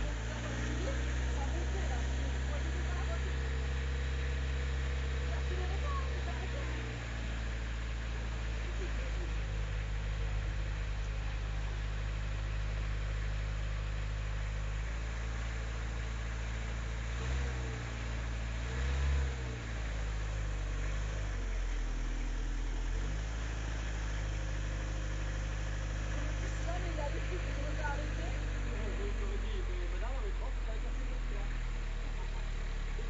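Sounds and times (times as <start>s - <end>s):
car engine idling: 0.0s - 33.0s
engine revving: 0.0s - 33.0s.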